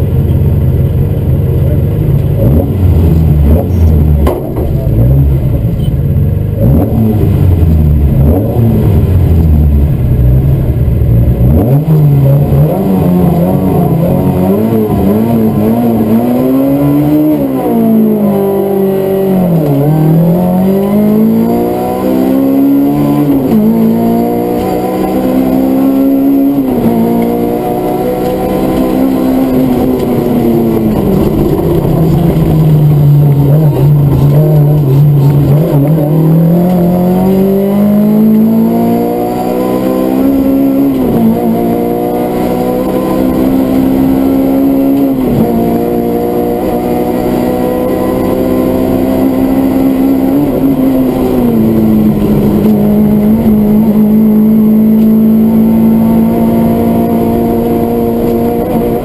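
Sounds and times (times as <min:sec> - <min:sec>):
rally car engine accelerating: 0:00.0 - 0:59.0.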